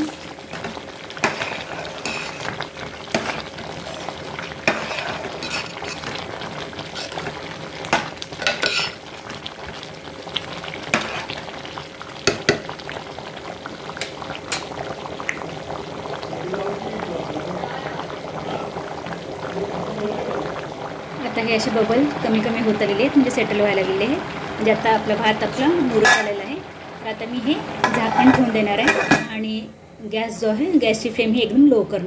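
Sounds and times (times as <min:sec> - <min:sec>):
pot of water boiling: 0:00.0 - 0:32.0.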